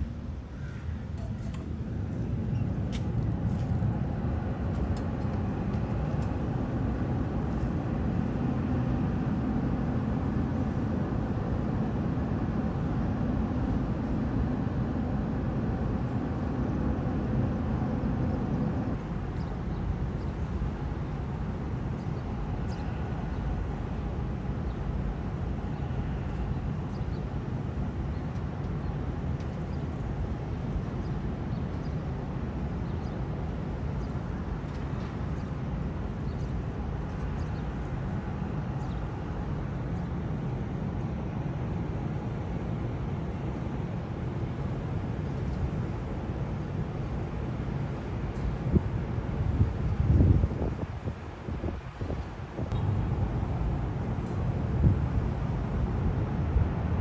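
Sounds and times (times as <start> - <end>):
city traffic rumble: 0.0 - 57.0.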